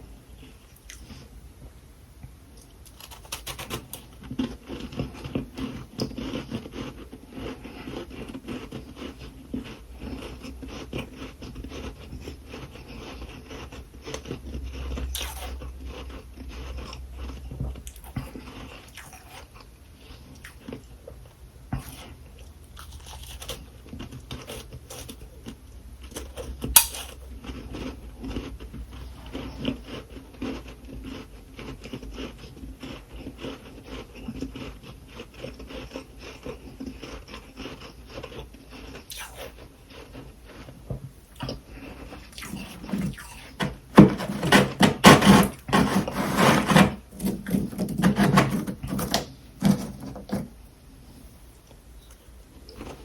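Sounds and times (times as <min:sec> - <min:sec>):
crunching and chewing frost: 0:00.0 - 0:01.4, 0:02.4 - 0:50.6, 0:51.2 - 0:53.0.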